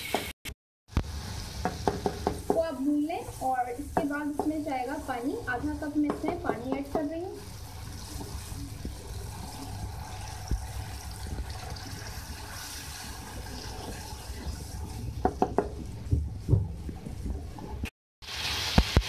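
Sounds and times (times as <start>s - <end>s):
sauce sizzling and bubbling: 0.9s - 19.0s.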